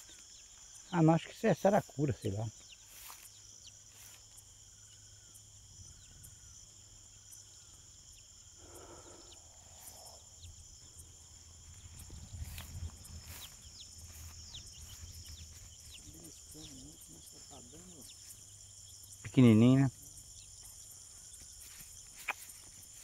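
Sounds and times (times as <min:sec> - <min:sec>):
frogs and insects trilling: 0:00.0 - 0:23.0.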